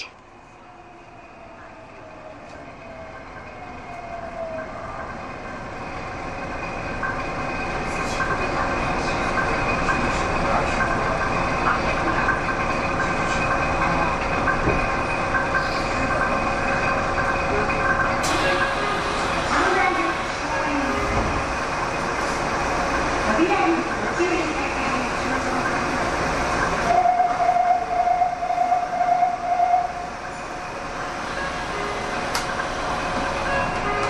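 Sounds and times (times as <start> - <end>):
subway train running noise: 0.0 - 34.0.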